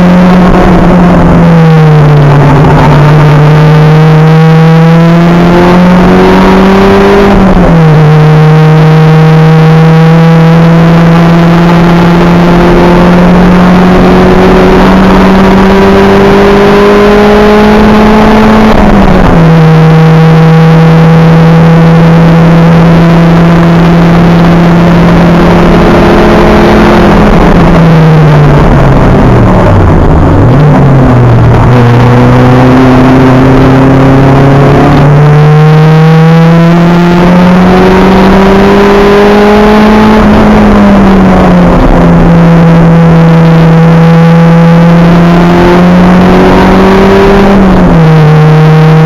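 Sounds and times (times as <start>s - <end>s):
race car engine at full throttle: 0.0s - 49.0s.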